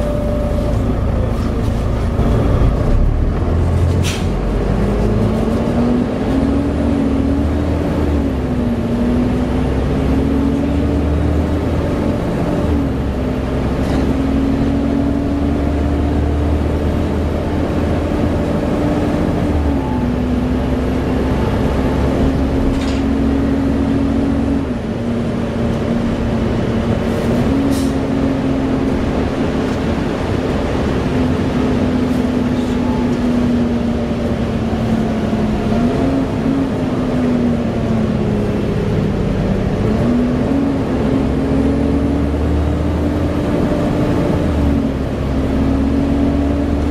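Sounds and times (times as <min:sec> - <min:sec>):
bus engine at speed: 0:00.0 - 0:46.9.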